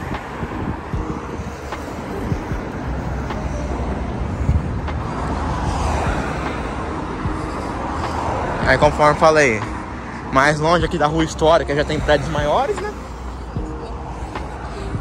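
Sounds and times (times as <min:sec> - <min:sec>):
car passing close: 0:00.0 - 0:15.0
engine rumble: 0:00.0 - 0:15.0.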